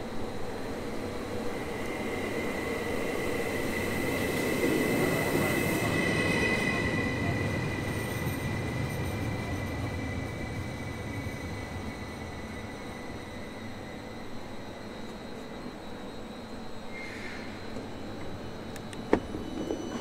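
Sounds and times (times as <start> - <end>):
train high whine: 0.0 - 20.0.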